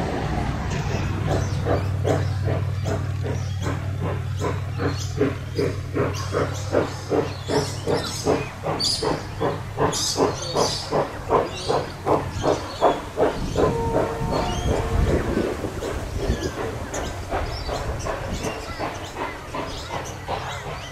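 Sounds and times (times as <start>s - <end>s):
steam locomotive exhaust chuffing: 0.0s - 20.9s.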